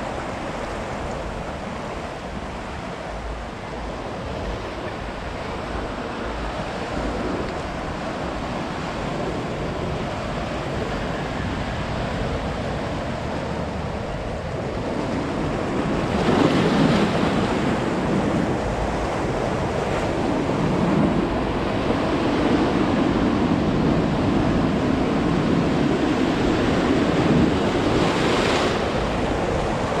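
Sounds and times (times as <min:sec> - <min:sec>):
waves breaking on shore: 0:00.0 - 0:30.0.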